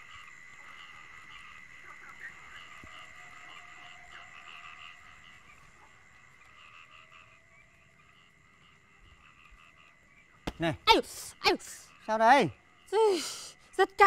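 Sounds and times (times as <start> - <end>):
frogs croaking: 0.0 - 14.0.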